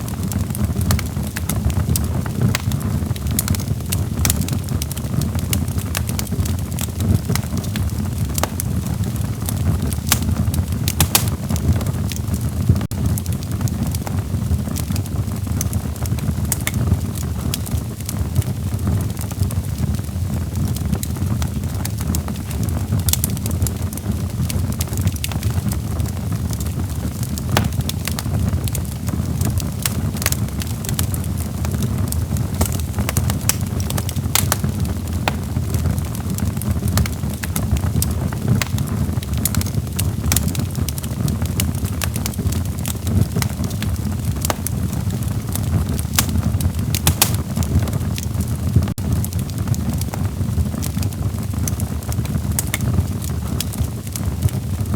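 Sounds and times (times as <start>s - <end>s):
logs crackling and popping: 0.0s - 54.9s
low rumble of flames: 0.0s - 54.9s.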